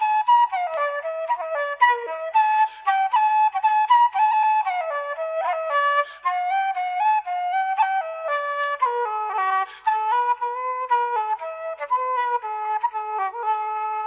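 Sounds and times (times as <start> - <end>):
solo flute melody: 0.0 - 14.0.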